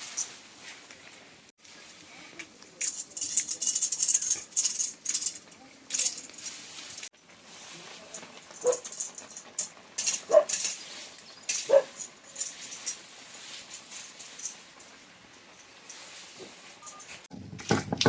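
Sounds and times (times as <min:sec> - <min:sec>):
rustling hiss: 0:00.0 - 0:17.3.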